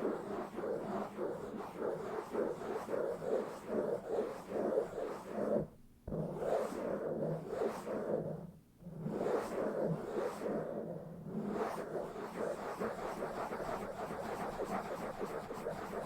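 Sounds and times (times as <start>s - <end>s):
scratching on a microphone: 0.0s - 16.0s.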